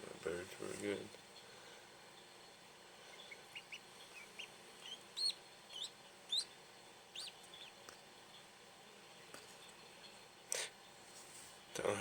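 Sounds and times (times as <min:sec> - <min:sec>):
ducklings peeping: 0:00.3 - 0:11.0.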